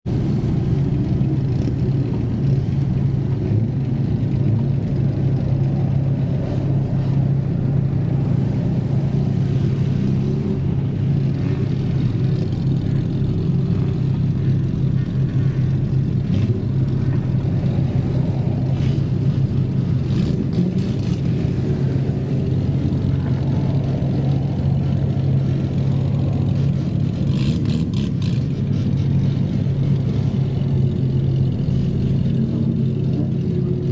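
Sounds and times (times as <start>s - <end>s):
car exhaust rumbling: 0.0s - 33.9s.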